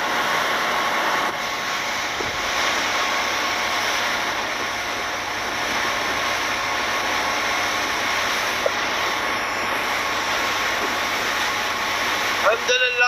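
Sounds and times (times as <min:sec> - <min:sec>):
boat engine drone: 0:00.0 - 0:13.0
wind and water rushing: 0:00.0 - 0:13.0.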